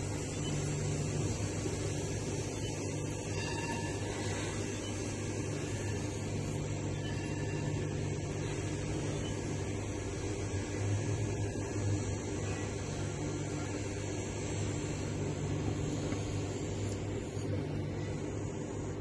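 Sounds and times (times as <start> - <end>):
fan-like hiss: 0.0 - 19.0
low electrical hum: 0.0 - 19.0.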